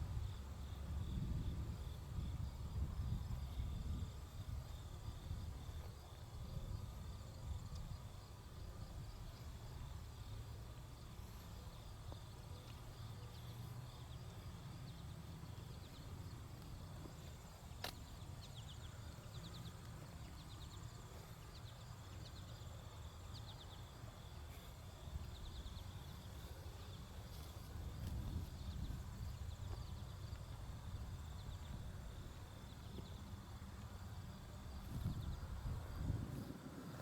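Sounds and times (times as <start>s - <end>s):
insects chirping: 0.1s - 37.0s.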